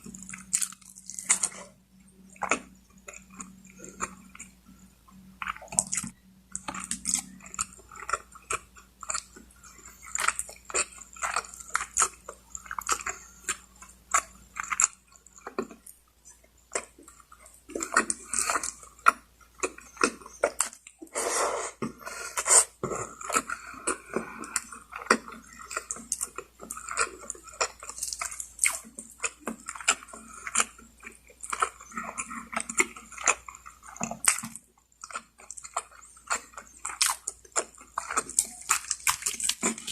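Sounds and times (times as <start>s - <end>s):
close chewing and biting: 0.0s - 39.9s.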